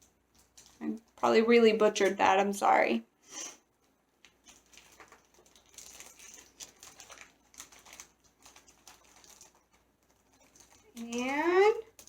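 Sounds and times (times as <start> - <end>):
plastic bag crinkling: 0.0 - 2.5, 3.7 - 12.0.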